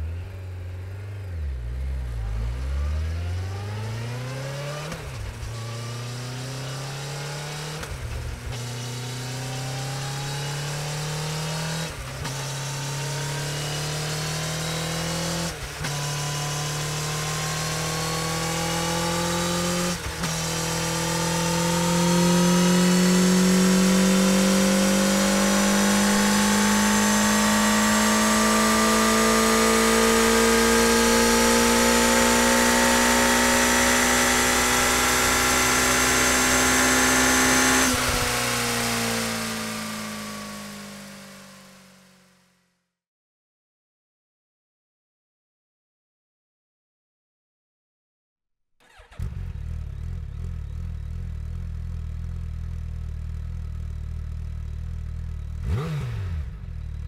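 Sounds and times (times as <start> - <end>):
motorcycle engine accelerating: 0.0 - 42.6, 48.8 - 57.0.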